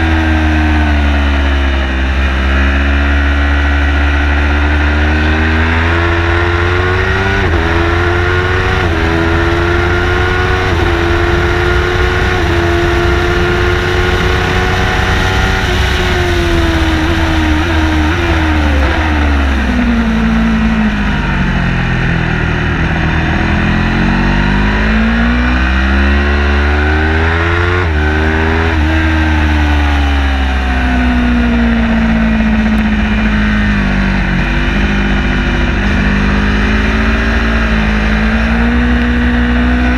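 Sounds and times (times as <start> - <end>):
racing car engine revving: 0.0 - 39.9
constant low rumble: 3.2 - 25.6, 27.8 - 39.9.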